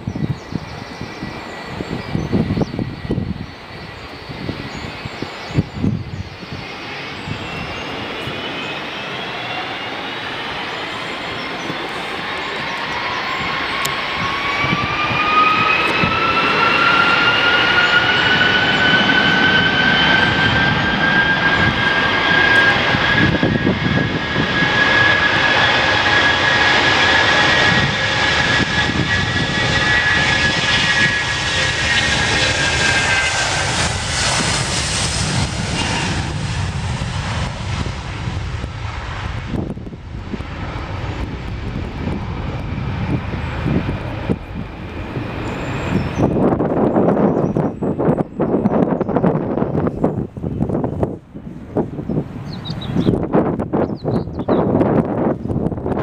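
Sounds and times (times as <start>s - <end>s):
jet engine whine: 0.0s - 56.0s
loud jet engine rumble: 0.0s - 56.0s.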